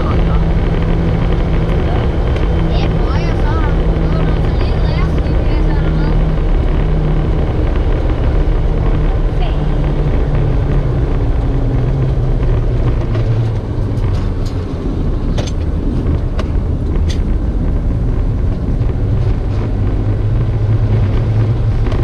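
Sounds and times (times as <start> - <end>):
car engine hum: 0.0 - 22.0
road rumble: 0.0 - 22.0.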